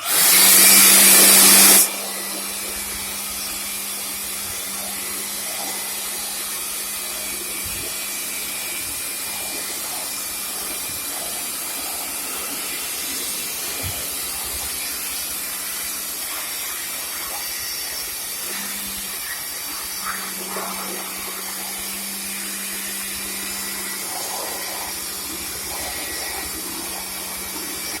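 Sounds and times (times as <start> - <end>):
motor hum: 0.0 - 28.0
water spraying: 0.0 - 28.0.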